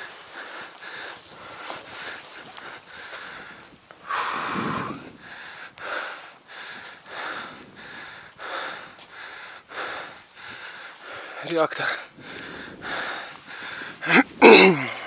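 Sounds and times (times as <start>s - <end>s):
man breathing hard: 0.0s - 15.0s.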